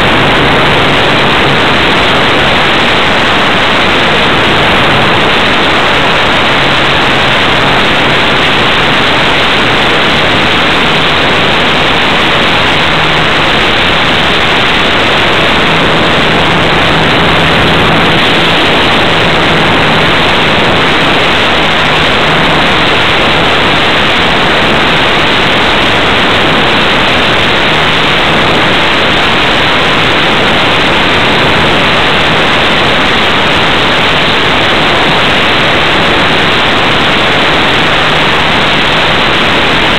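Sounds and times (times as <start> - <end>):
wind and propeller hiss: 0.0 - 39.9.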